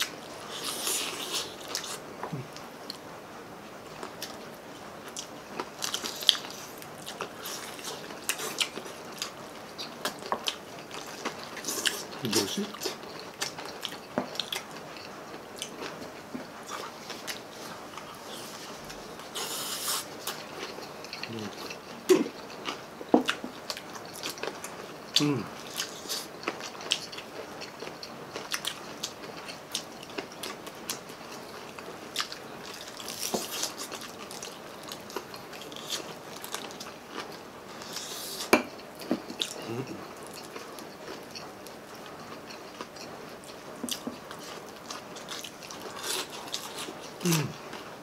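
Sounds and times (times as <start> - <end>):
biting and chewing crisp food: 0.0 - 3.0, 3.9 - 48.0.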